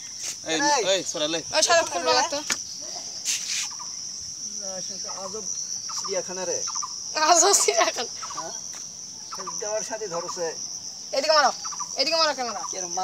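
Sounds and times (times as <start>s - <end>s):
high-pitched insect drone: 0.0s - 13.0s
short wavering calls: 1.4s - 13.0s.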